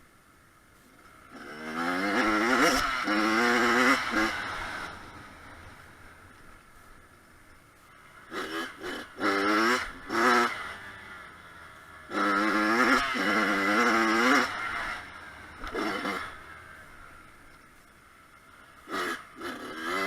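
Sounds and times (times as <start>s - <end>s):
dirt bike engine revving: 1.2s - 6.4s, 7.9s - 20.0s.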